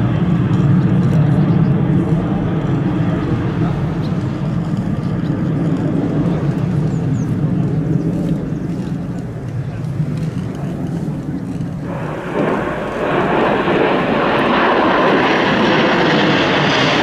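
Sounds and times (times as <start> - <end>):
jet engines rumbling overhead: 0.0 - 17.0.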